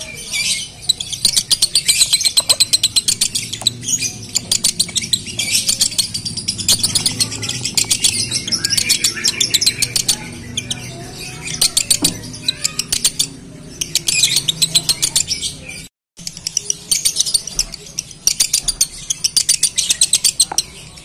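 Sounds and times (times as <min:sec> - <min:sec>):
lovebird chirping and chattering: 0:00.0 - 0:21.0.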